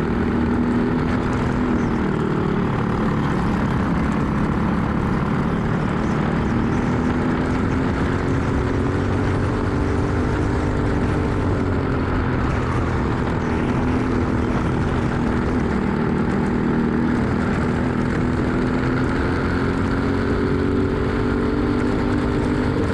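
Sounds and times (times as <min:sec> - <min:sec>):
kart engine running hard: 0:00.0 - 0:22.9
road rumble: 0:00.0 - 0:22.9.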